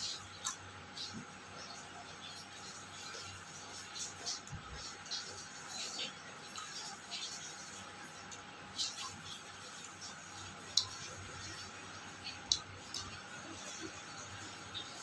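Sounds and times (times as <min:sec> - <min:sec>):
eating smacks and clicks: 0:00.0 - 0:01.3, 0:04.0 - 0:15.0.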